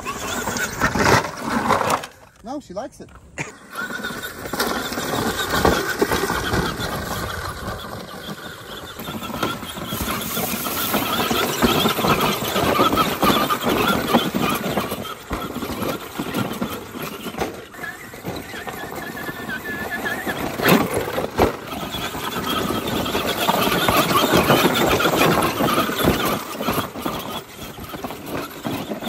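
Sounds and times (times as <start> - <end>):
electric motors and gears whining: 0.0 - 29.0
rough driving noise: 0.0 - 29.0.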